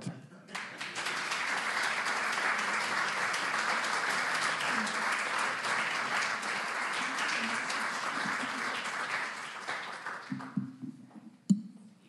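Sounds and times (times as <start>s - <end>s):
audience applauding: 0.5s - 10.7s.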